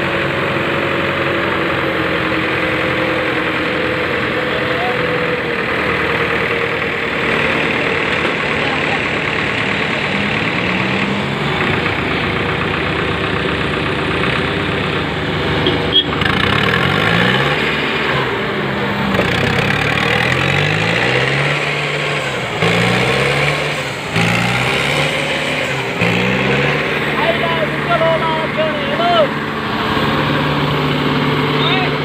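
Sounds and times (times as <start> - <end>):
diesel tractor engines revving: 0.0 - 32.0.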